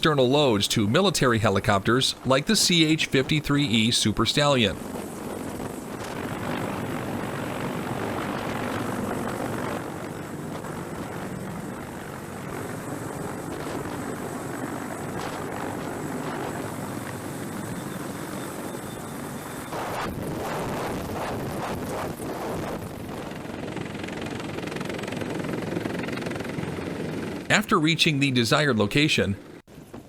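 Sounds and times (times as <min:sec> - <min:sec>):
helicopter rotor and turbine: 0:00.0 - 0:27.6.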